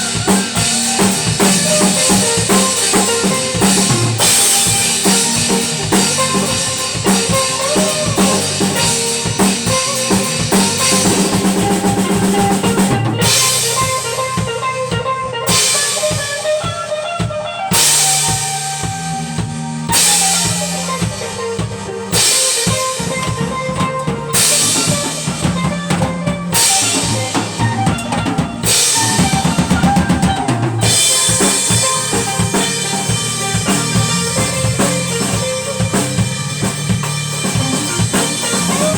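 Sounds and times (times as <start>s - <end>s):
cymbals: 0.0s - 38.9s
live band playing: 0.0s - 38.9s.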